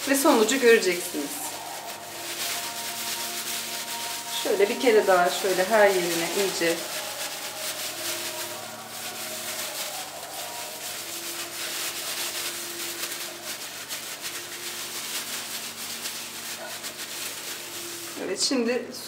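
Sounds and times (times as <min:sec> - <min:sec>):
plastic scrubbing on metal: 0:00.0 - 0:18.6.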